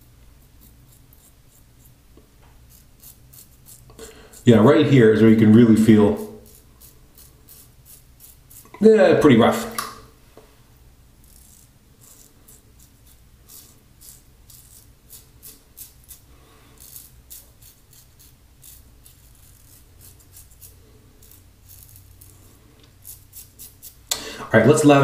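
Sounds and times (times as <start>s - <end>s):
razor scraping stubble: 0.4s - 9.8s, 11.2s - 25.0s.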